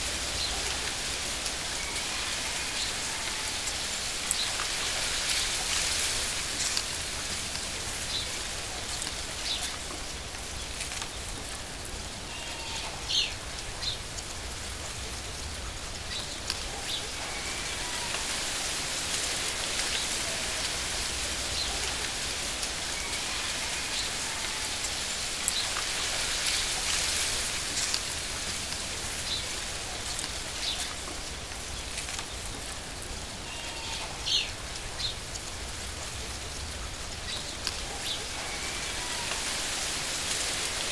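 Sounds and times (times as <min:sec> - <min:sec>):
steady hiss of water: 0:00.0 - 0:40.9.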